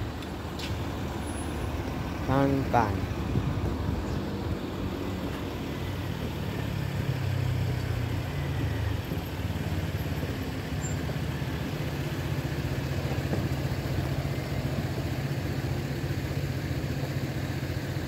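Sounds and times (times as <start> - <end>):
vehicle engines idling: 0.0 - 18.0.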